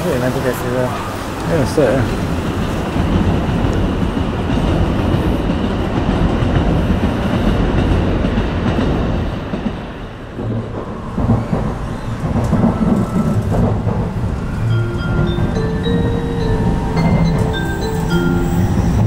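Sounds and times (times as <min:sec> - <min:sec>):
rail clatter: 0:00.0 - 0:19.0
train rumbling: 0:00.0 - 0:19.0.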